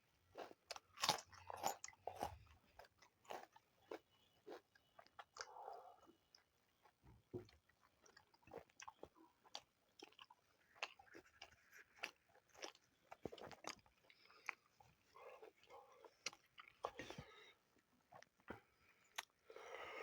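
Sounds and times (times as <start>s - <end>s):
people chewing food: 0.0s - 20.0s.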